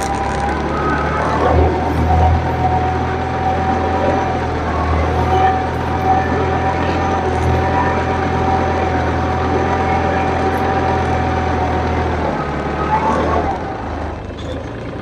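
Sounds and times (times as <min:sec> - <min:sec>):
steady whine: 0:00.0 - 0:15.0
tractor diesel engine under load: 0:00.0 - 0:15.0.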